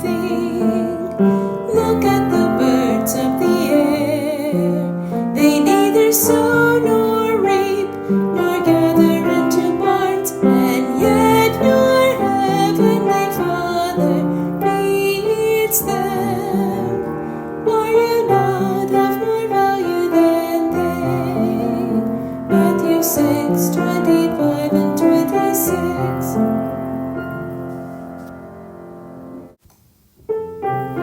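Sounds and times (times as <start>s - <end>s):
woman singing with vibrato: 0.0s - 27.0s
piano accompaniment: 0.0s - 29.6s, 30.2s - 31.0s.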